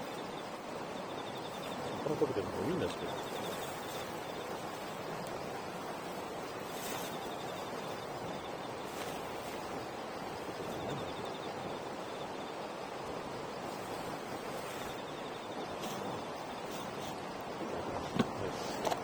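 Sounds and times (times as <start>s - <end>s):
campfire hissing: 0.0s - 19.0s
fire crackles: 0.0s - 19.0s.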